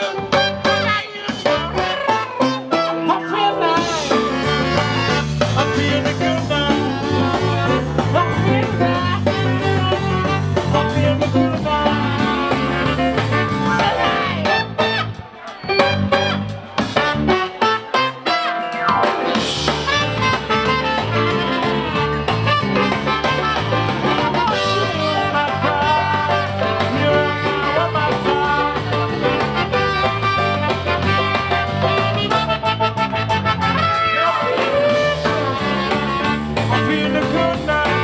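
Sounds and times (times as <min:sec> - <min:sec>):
swing band playing: 0:00.0 - 0:38.0.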